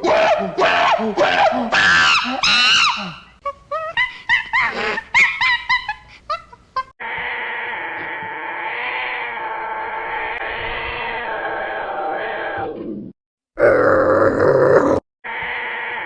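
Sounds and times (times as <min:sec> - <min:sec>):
animal wavering cries: 0:00.0 - 0:05.4, 0:07.0 - 0:12.9, 0:13.6 - 0:16.0.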